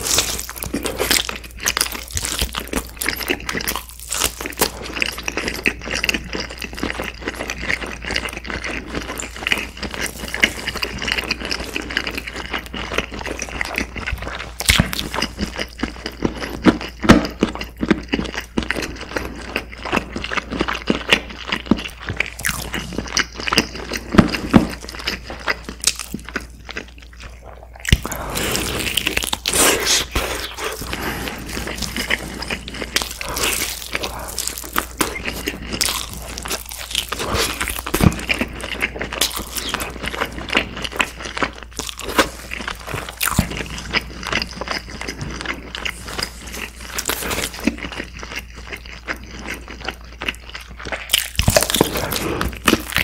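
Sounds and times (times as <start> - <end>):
person biting and chewing: 0.0 - 53.0.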